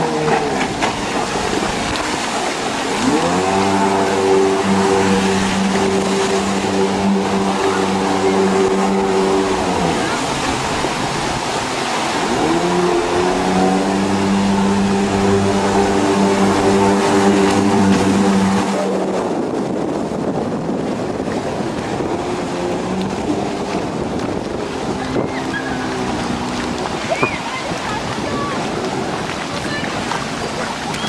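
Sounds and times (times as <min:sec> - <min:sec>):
jet ski engine: 0:00.0 - 0:31.0.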